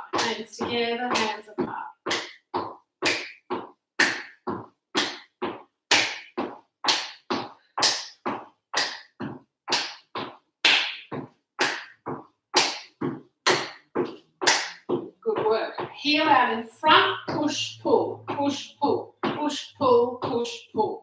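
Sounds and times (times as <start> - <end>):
feet stepping on wooden floor: 0.0 - 20.9.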